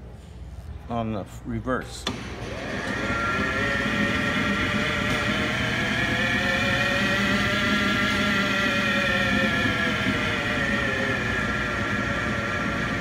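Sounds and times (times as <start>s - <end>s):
lathe drive hum: 2.0s - 13.0s
lathe spindle whining: 2.1s - 13.0s.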